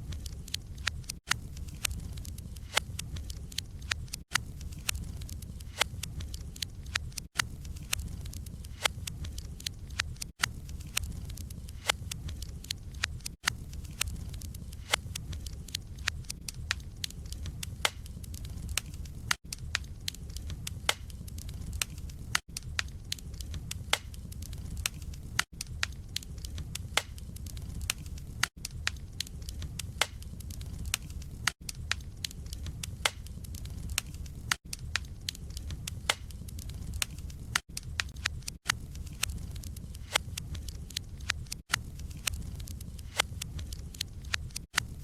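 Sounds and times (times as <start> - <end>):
low rumble of flames: 0.0 - 45.0
wood fire crackling: 0.0 - 45.0.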